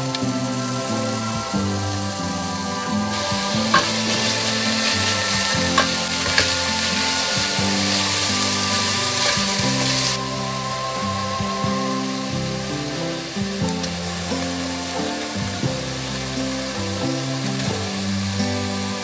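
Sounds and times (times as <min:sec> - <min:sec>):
background music: 0:00.0 - 0:19.0
meat and onions sizzling: 0:00.0 - 0:19.0.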